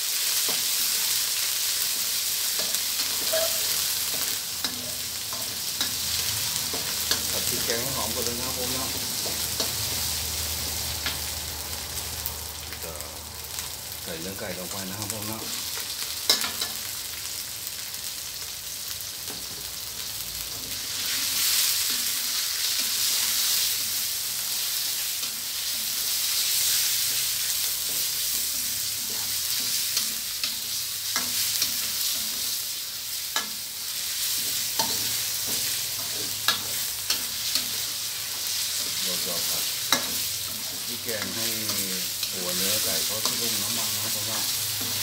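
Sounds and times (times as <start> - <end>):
chicken sizzling in hot oil: 0.0 - 45.0
spatula scraping wok: 0.2 - 12.4, 14.5 - 17.2, 19.3 - 45.0.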